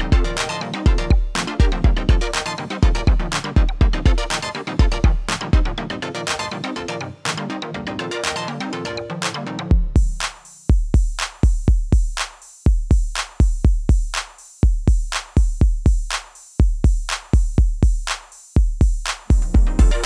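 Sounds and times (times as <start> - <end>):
drum machine beat: 0.0 - 7.6, 8.2 - 20.0.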